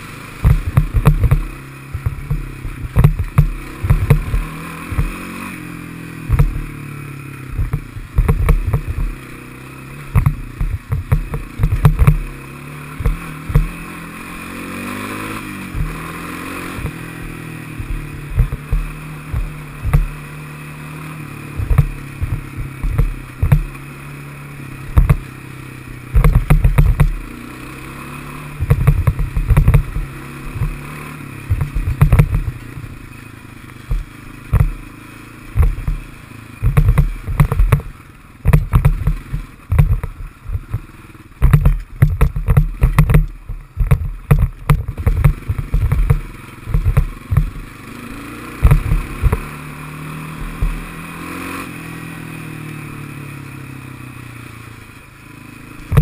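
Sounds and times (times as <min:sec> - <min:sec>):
knocks and clatter over bumps: 0:00.0 - 0:06.8, 0:07.4 - 0:24.2, 0:24.8 - 0:51.4
atv engine running: 0:00.0 - 0:56.0.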